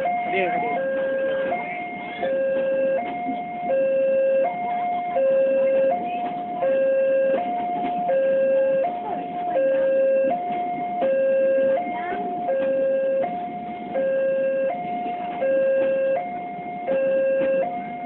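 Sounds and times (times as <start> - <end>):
level-crossing two-tone alarm: 0.0 - 18.0.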